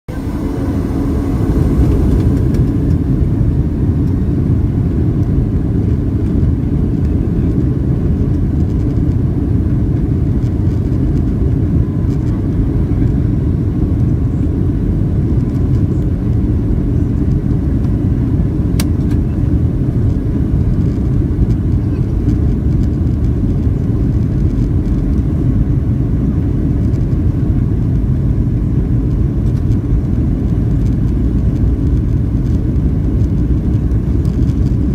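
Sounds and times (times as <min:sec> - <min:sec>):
aircraft engine rumble: 0:00.0 - 0:34.9.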